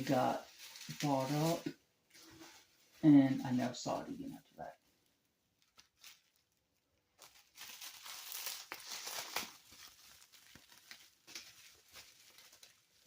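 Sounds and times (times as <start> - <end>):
plastic packaging crinkling: 0.0 - 3.0, 5.0 - 13.0.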